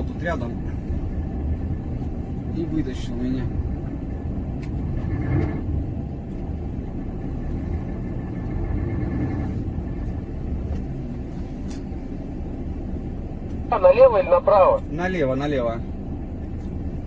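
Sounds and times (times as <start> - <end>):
heavy truck engine rumbling: 0.0 - 17.0.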